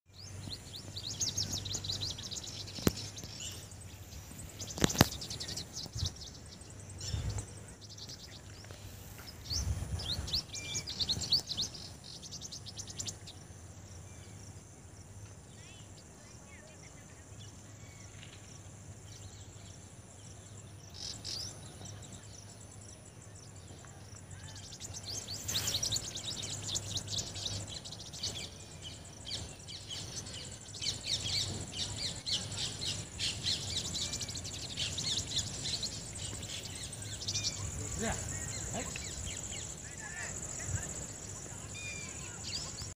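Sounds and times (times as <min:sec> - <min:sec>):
small birds chirping: 0:00.1 - 0:42.9.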